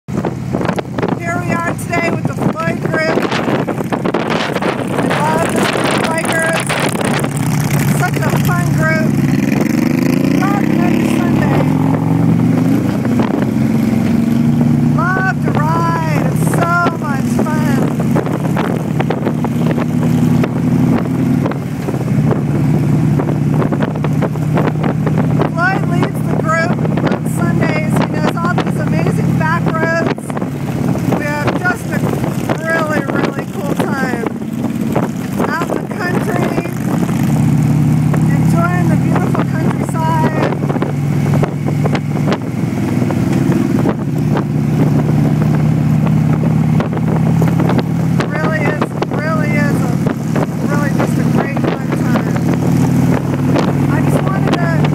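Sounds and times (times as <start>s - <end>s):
motorcycle engine running: 0.0s - 54.9s
wind buffeting microphone: 0.1s - 54.9s.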